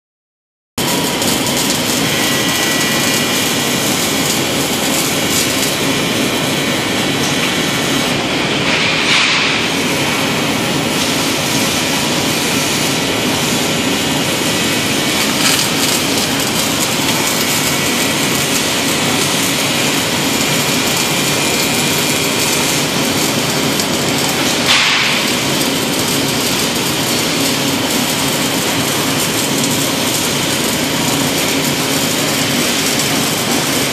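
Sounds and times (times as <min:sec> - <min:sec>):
shop machinery: 0:00.8 - 0:33.9
welding arc hissing: 0:00.8 - 0:33.9.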